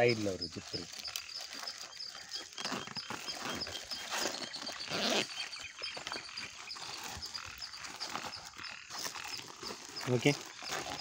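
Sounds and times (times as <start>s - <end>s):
shoe bag and plastic rustling: 0.0s - 11.0s
zip rasping: 1.2s - 11.0s.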